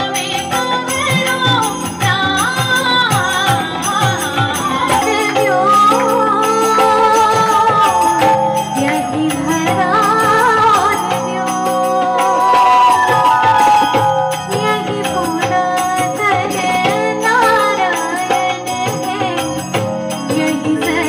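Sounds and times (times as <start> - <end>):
light percussion: 0.0 - 21.0
woman singing into a microphone: 0.0 - 21.0.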